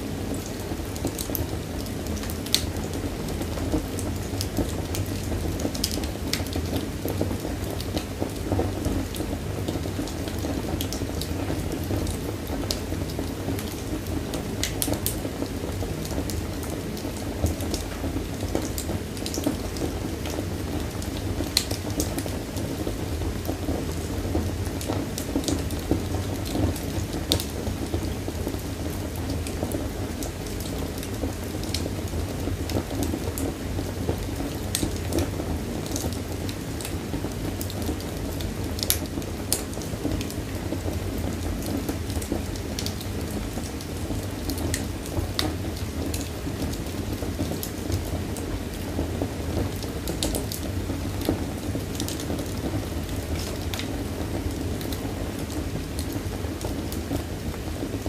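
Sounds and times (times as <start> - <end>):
fire roaring: 0.0 - 58.0
wood crackling and popping: 0.2 - 58.0.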